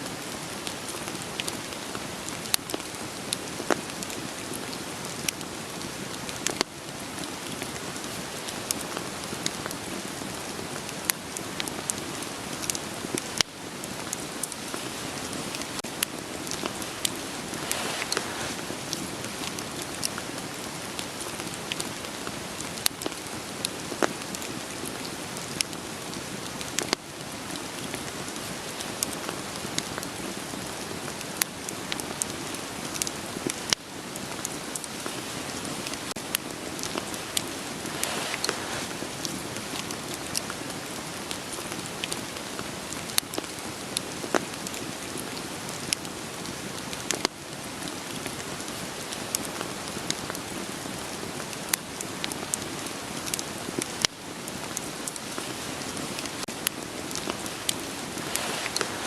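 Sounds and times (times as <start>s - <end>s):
steady rain falling: 0.0s - 59.0s
wood fire crackling: 0.1s - 59.0s.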